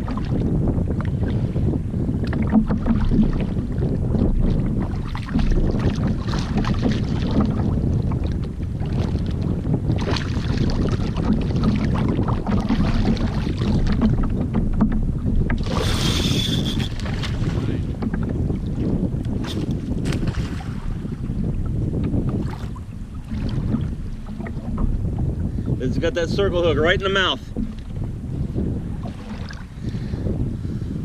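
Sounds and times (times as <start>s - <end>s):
water sloshing around kayak: 0.0s - 31.0s
wind buffeting microphone: 0.0s - 31.0s.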